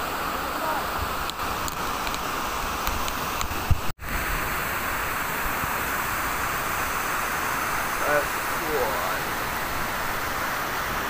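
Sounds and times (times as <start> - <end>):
waterfall rushing onto rocks: 0.0 - 11.0.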